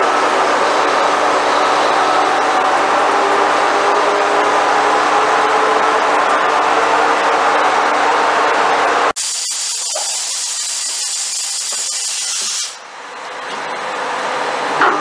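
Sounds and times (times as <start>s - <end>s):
lathe machining noise: 0.0s - 13.2s.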